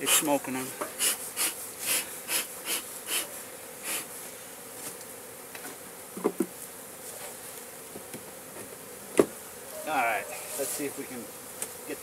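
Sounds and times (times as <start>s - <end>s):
bee smoker bellows puffing: 0.0s - 12.0s
honey bees buzzing: 0.0s - 12.0s.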